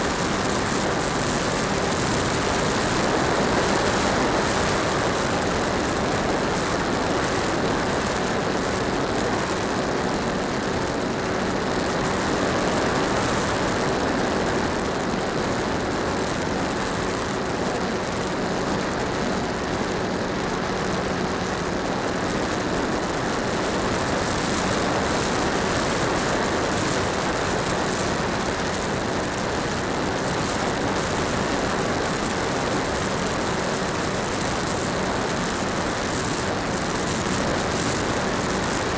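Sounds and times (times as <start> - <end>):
model plane electric motor droning: 0.0 - 38.9.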